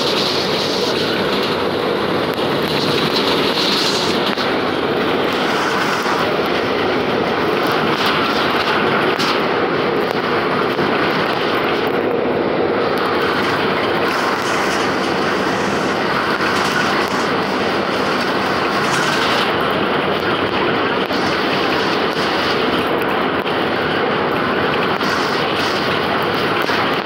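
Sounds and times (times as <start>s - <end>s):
bus engine and tyre noise: 0.0s - 27.0s.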